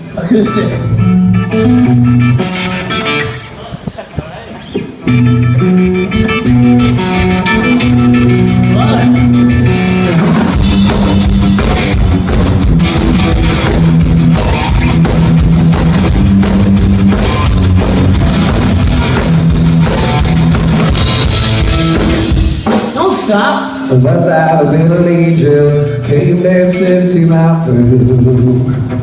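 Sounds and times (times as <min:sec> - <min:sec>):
rock band playing: 0:00.0 - 0:04.0, 0:04.9 - 0:29.0
drums: 0:00.0 - 0:29.0
electric guitar: 0:00.0 - 0:29.0.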